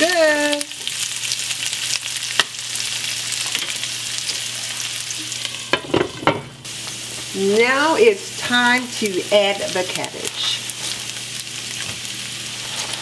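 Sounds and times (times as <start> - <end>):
bacon sizzling in a pan: 0.0 - 13.0.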